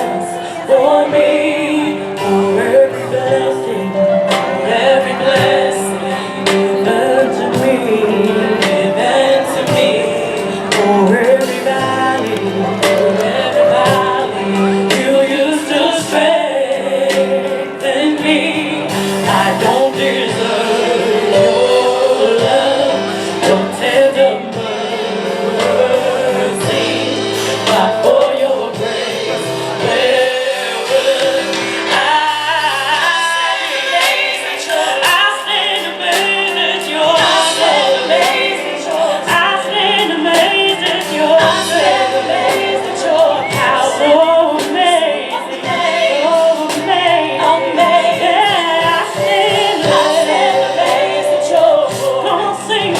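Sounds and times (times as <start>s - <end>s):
drums: 0.0s - 52.9s
piano: 0.0s - 52.9s
vocal group singing: 0.0s - 52.9s.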